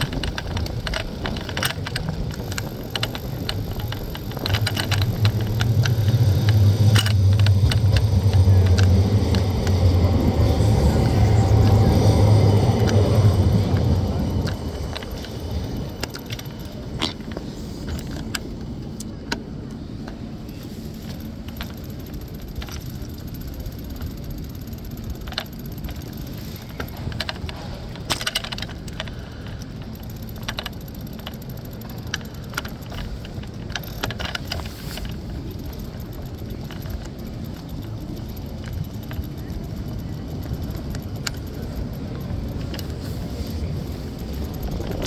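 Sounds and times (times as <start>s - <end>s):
bicycle rattles and clicks: 0.0s - 45.0s
bicycle rolling rumble: 0.0s - 45.0s.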